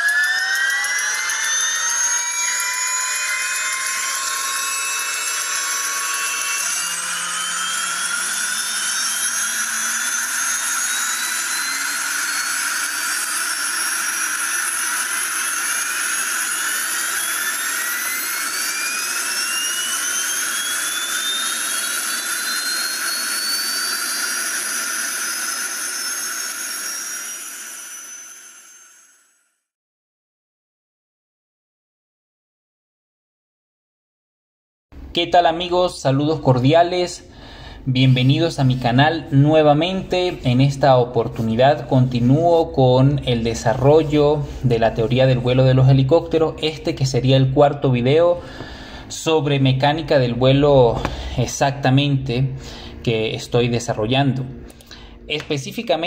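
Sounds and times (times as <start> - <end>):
turbine engine spooling up: 0.0 - 29.5, 35.9 - 56.0.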